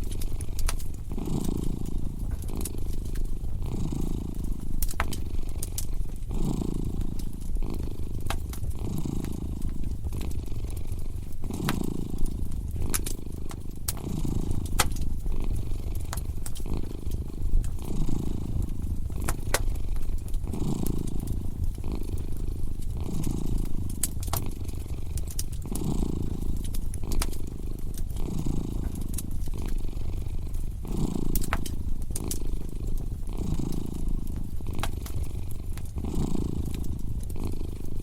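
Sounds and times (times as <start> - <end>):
cat purring: 0.0 - 38.0
fireplace fire crackling: 0.0 - 38.0.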